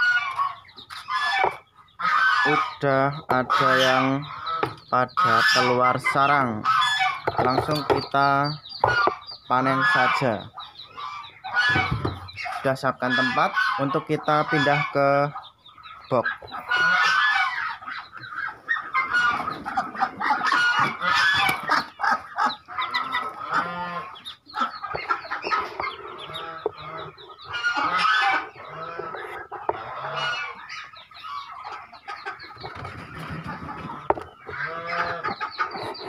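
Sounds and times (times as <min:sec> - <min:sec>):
ducklings peeping: 0:00.0 - 0:36.0.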